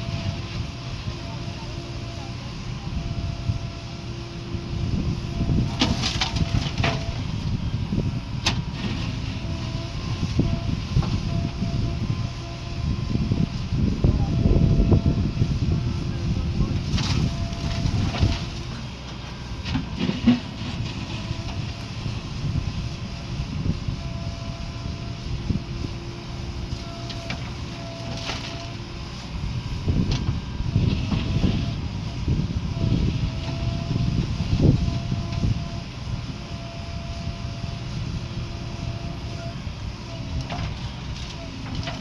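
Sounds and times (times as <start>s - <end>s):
diesel machinery rumbling: 0.0s - 42.0s.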